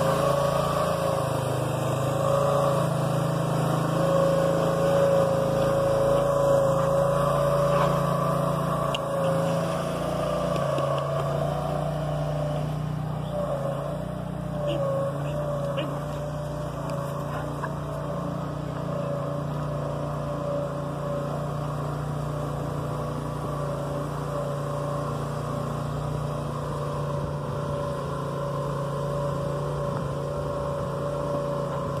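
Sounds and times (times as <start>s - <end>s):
lawn mower engine humming: 0.0s - 32.0s.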